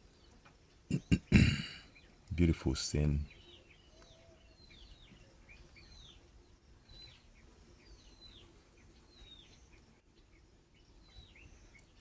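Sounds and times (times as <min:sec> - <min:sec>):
faint bird chirps: 0:00.1 - 0:12.0.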